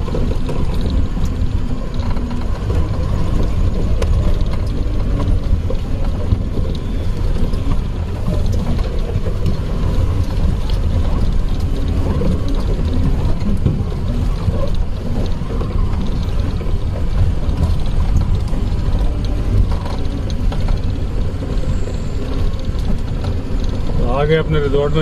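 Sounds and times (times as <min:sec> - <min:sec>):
body rattles and knocks: 0:00.0 - 0:25.0
jeep engine running: 0:00.0 - 0:25.0.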